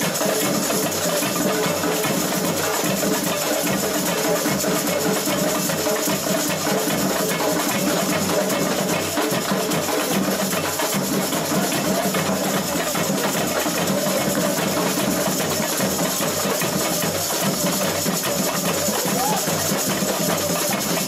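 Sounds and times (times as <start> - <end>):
samba percussion music: 0.0 - 21.0.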